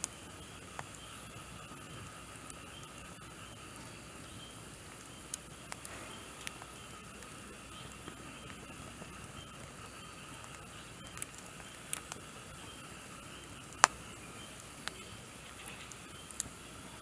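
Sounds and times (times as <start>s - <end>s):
faint fire hiss: 0.0s - 17.0s
wood fire crackling pops: 0.0s - 17.0s.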